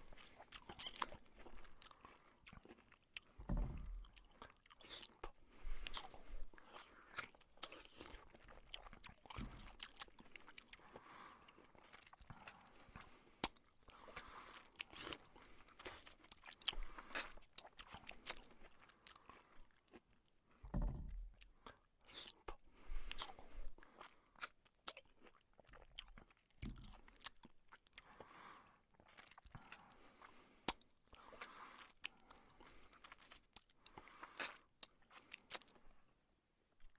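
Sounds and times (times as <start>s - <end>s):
person chewing noodles: 0.0s - 36.9s.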